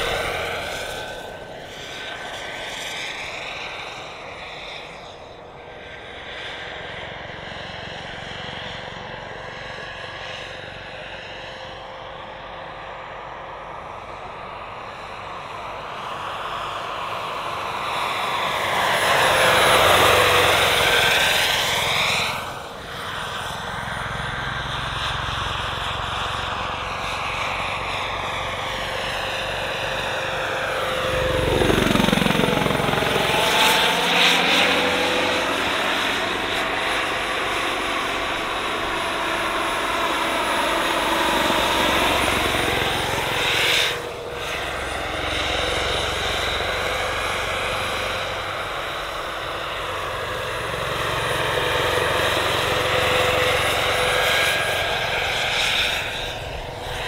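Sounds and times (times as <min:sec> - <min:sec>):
model helicopter turbine and rotor: 0:00.0 - 0:57.0.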